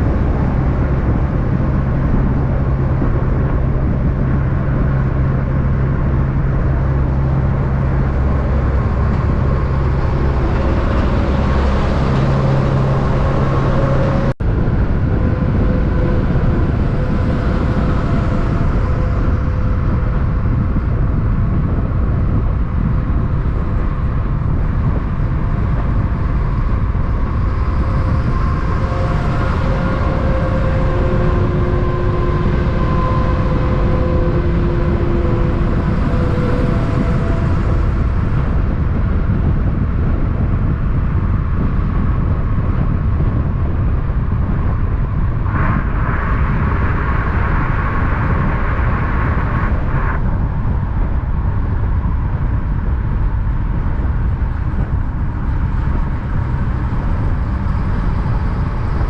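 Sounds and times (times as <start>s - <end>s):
faint whining tones: 0.0s - 49.2s
vehicle engine and road noise: 0.0s - 59.0s.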